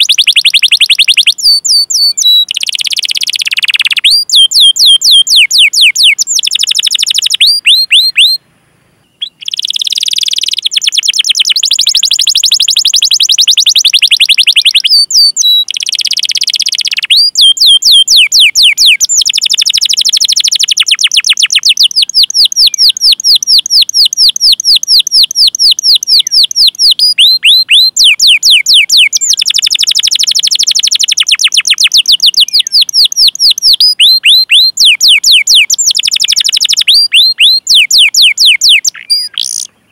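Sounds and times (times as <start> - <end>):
canary singing rapid chirps: 0.0 - 8.4, 9.0 - 39.8.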